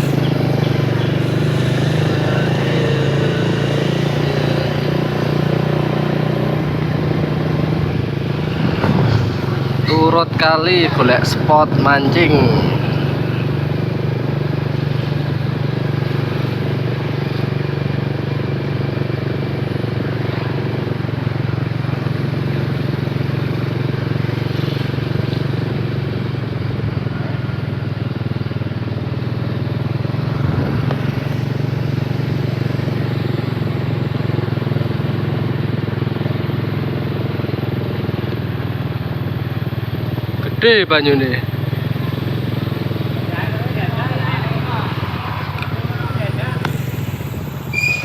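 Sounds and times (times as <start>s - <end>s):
road and wind noise: 0.0s - 48.0s
small motorcycle engine running: 0.0s - 48.0s.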